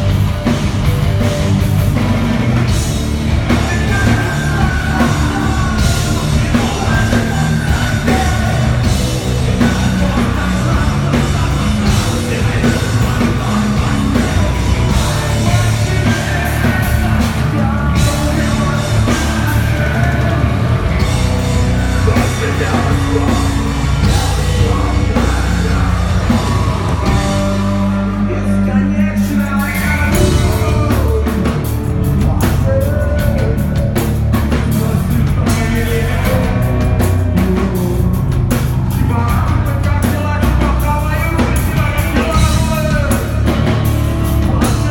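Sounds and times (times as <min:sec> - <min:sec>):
bass guitar: 0:00.0 - 0:44.9
distorted electric guitars: 0:00.0 - 0:44.9
drums: 0:00.0 - 0:44.9
person singing: 0:02.6 - 0:44.9.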